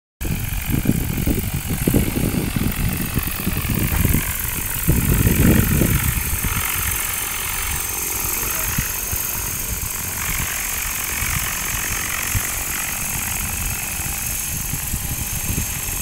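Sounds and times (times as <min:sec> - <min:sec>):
helicopter rotor whirring: 0:00.2 - 0:16.0
wind buffeting microphone: 0:00.2 - 0:16.0.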